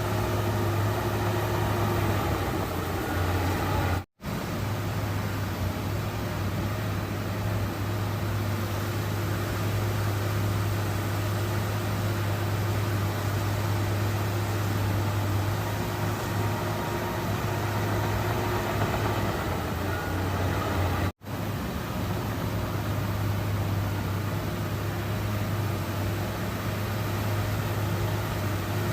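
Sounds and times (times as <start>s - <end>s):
bulldozer diesel engine: 0.0s - 28.9s.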